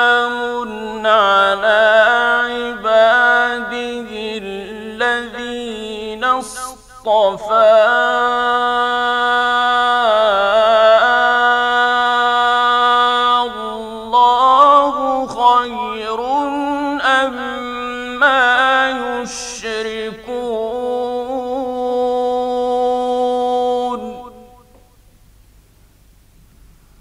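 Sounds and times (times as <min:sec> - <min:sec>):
man chanting unaccompanied: 0:00.0 - 0:24.9.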